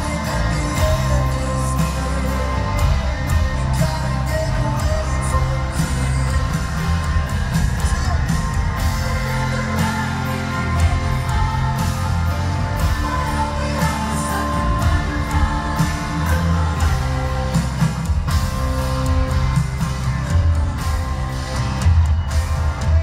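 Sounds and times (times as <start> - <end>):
person singing lead vocal: 0.0 - 21.9
bass guitar: 0.0 - 23.0
drums: 0.0 - 23.0
electric guitar: 0.0 - 23.0.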